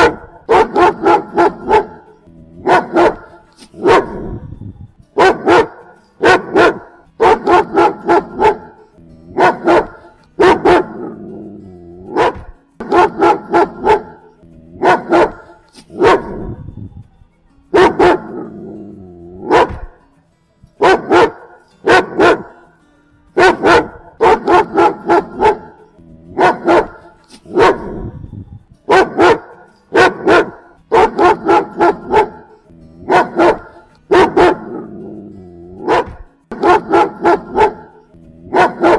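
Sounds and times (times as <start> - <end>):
dog barking: 0.0 - 4.5, 5.2 - 11.3, 12.0 - 16.6, 17.7 - 18.6, 19.4 - 20.0, 20.8 - 22.6, 23.4 - 28.2, 28.9 - 35.0, 35.8 - 38.9.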